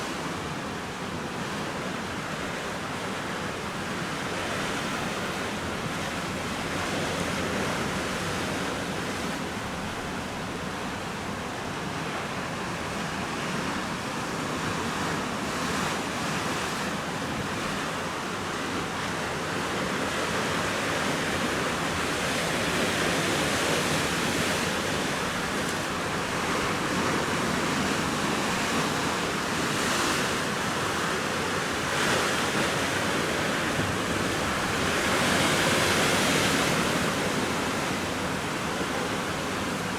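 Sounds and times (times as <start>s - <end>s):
ocean surf breaking on shore: 0.0s - 39.9s.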